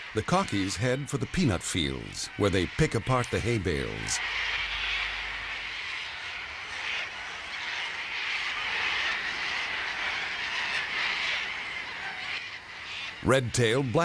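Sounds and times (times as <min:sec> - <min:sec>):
flock of cockatoos screeching: 0:00.0 - 0:14.0.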